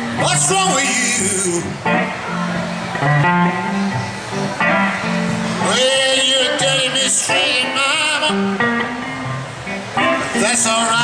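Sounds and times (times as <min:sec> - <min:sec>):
electric blues guitar: 0:00.0 - 0:11.0.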